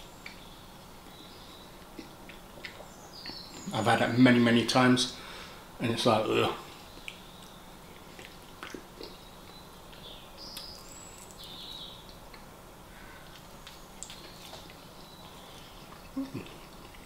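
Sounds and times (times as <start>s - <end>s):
man chewing food: 0.0s - 3.7s, 6.6s - 17.0s.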